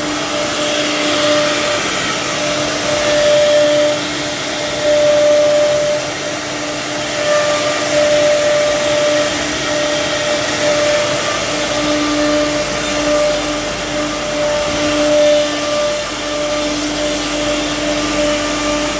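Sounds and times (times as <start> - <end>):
cutter rushing noise: 0.0 - 18.9
router spindle whine: 0.0 - 18.9.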